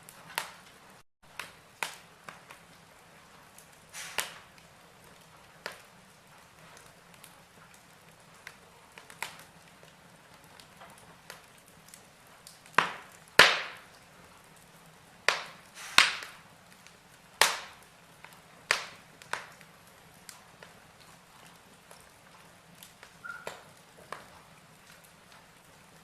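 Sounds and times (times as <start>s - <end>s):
logs crackling in fireplace: 0.0s - 26.0s.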